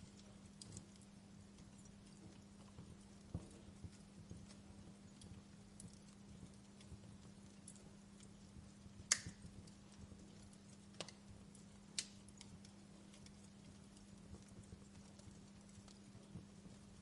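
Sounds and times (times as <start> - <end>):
faint steady hum: 0.0 - 17.0
wood fire crackling: 0.0 - 17.0.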